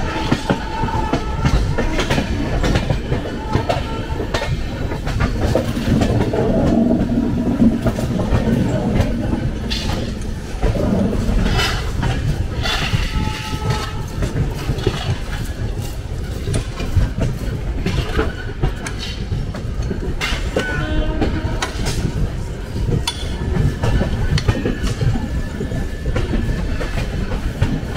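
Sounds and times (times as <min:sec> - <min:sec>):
train rumble: 0:00.0 - 0:27.9
wheels clacking over rail joints: 0:00.0 - 0:27.9.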